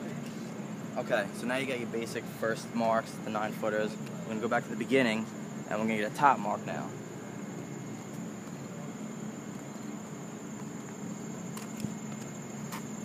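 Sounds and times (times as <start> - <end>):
high-pitched insect trill: 0.8 - 13.0.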